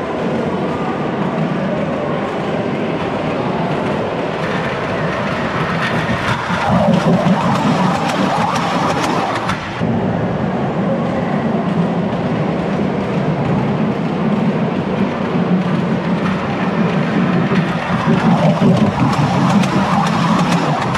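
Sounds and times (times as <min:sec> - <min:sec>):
wheels clicking on rails: 0:00.0 - 0:09.9, 0:10.8 - 0:20.9
ride-on train rumbling: 0:00.0 - 0:20.9
steady background noise: 0:00.0 - 0:20.9.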